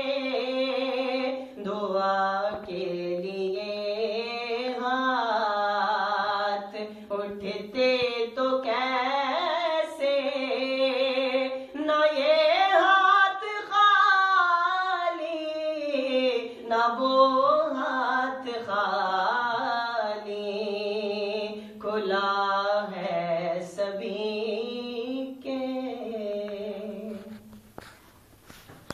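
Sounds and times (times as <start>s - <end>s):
man singing unaccompanied: 0.0s - 27.3s.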